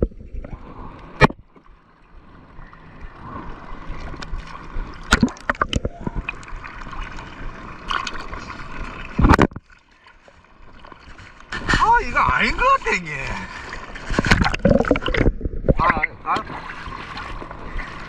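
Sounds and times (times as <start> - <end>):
sea water sloshing: 0.0 - 18.0.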